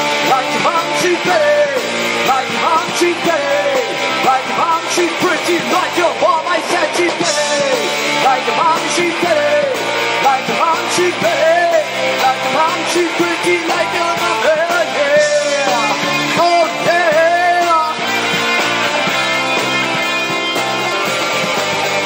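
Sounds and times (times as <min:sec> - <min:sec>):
man singing: 0:00.0 - 0:19.2
live rock band playing: 0:00.0 - 0:22.0.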